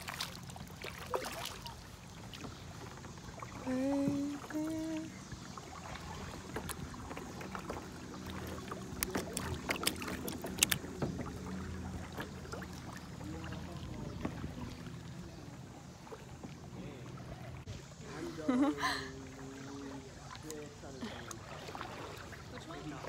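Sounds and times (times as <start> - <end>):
low steady hum: 0.0 - 23.0
water lapping: 0.0 - 23.0.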